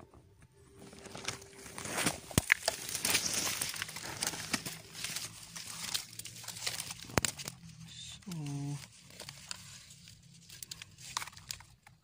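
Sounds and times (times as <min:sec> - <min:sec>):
leaves and brush rustling: 0:00.8 - 0:11.6.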